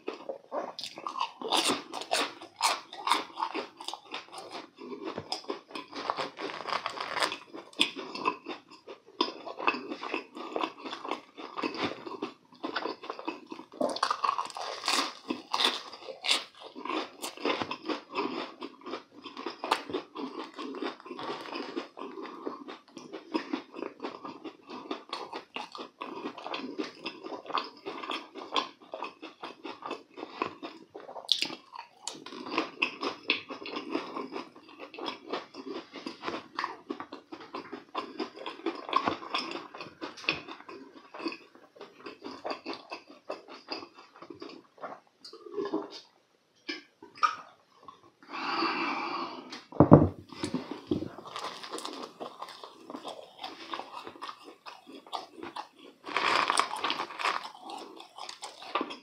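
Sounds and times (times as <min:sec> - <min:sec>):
man crunching and chewing food: 0:00.0 - 0:48.8, 0:49.5 - 0:59.0.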